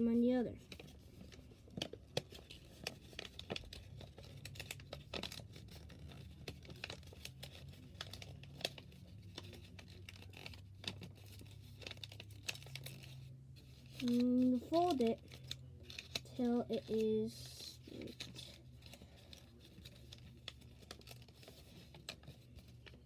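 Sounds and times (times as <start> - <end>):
paper crinkling and rustling: 0.2 - 23.0.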